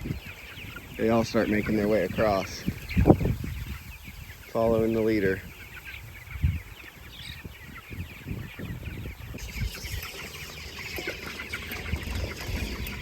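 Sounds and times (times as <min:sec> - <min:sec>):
chickens chirping and clucking: 0:00.0 - 0:13.0.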